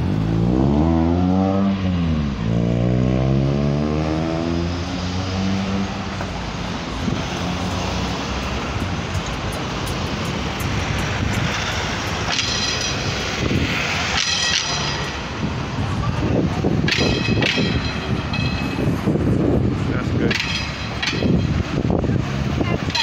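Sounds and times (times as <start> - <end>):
car and bus engines: 0.0 - 23.0.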